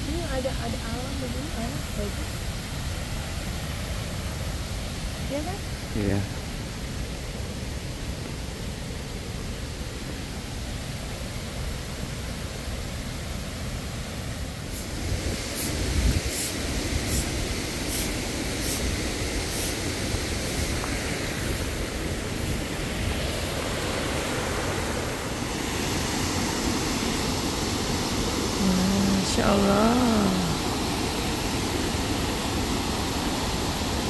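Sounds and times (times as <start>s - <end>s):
water rushing over a weir: 0.0s - 34.0s.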